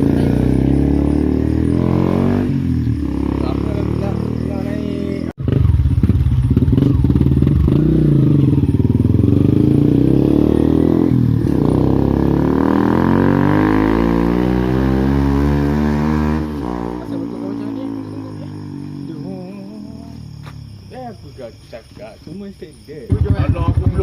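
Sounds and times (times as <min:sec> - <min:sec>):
motorcycle engine revving: 0:00.0 - 0:21.1, 0:23.1 - 0:24.0.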